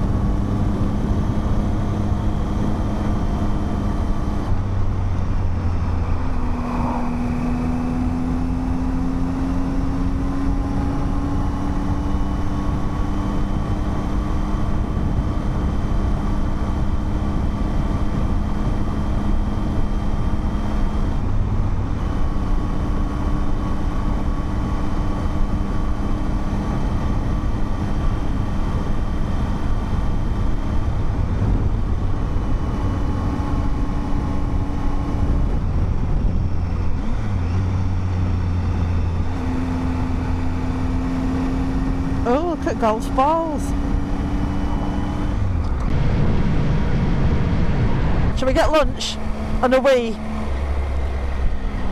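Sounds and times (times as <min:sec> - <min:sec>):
wind and road noise: 0:00.0 - 0:51.9.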